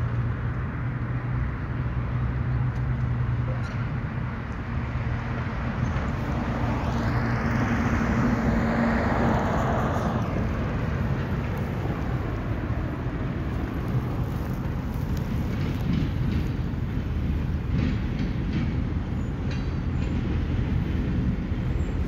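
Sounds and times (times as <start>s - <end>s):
diesel locomotive droning: 0.0s - 22.0s.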